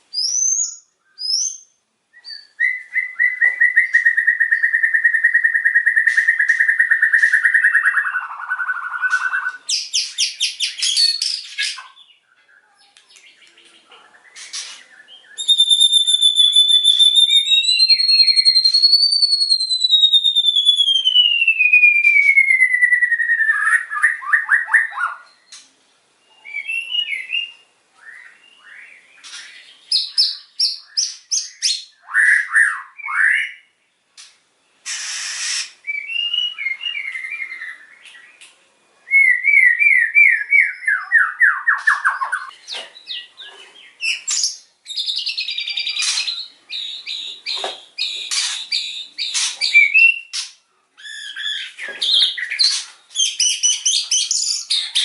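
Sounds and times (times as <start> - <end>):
songbird singing whistles and trills: 0.0 - 13.6, 14.2 - 33.8, 34.8 - 55.0.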